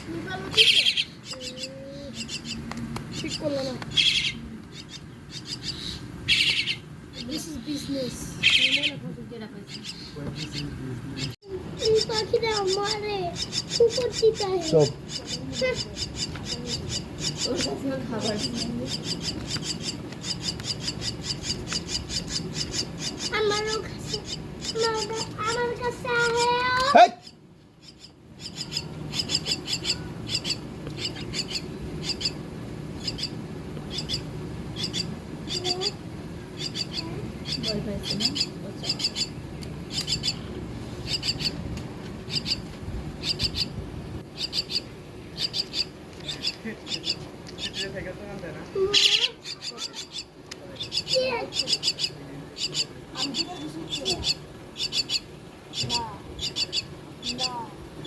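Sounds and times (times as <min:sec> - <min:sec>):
bird chicks rasping calls: 0:00.0 - 0:48.0, 0:48.7 - 0:58.0.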